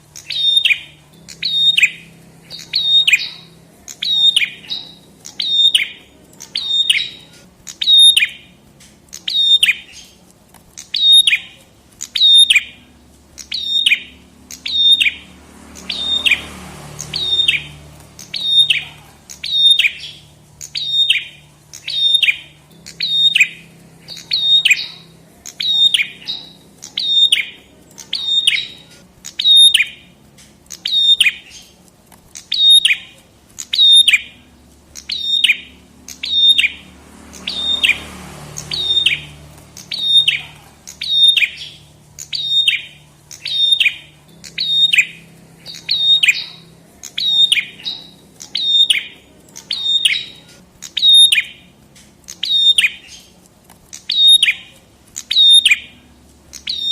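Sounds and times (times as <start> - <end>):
bird sharp chirp calling: 0.0 - 56.9.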